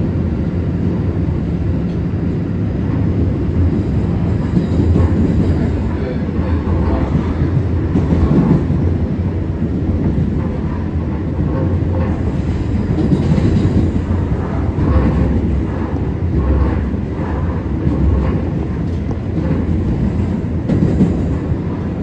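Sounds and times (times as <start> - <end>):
subway train rumbling on track: 0.0 - 22.0.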